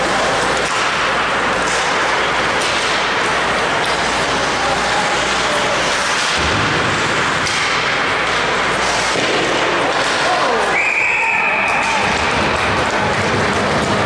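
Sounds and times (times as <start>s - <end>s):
skates and sticks on ice: 0.0s - 10.8s, 11.4s - 14.0s.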